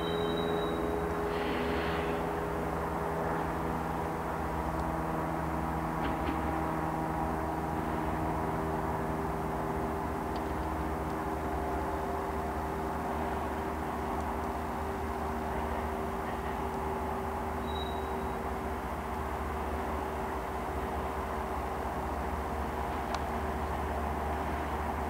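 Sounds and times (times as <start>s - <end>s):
diesel locomotive engines droning: 0.0s - 25.0s.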